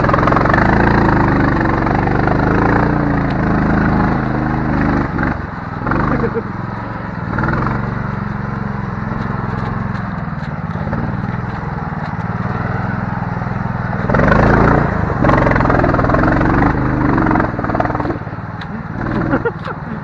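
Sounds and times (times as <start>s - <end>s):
small vehicle engine running: 0.0s - 20.0s.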